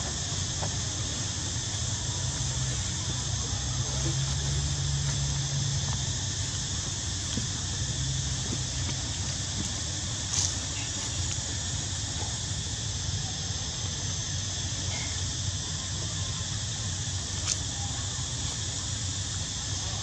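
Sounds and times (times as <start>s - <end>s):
outdoor hiss: 0.0s - 20.0s.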